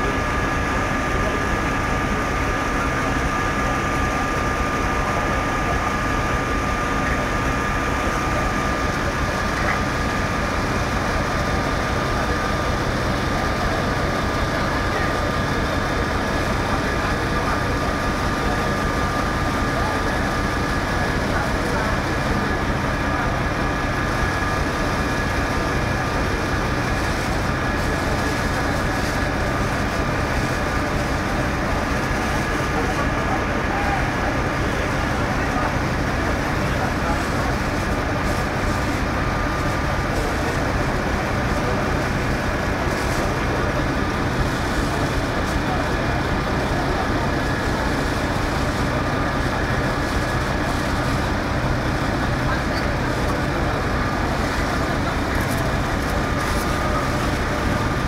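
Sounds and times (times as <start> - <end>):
fire engine low rumble: 0.0 - 58.0
steady high whine: 0.0 - 58.0.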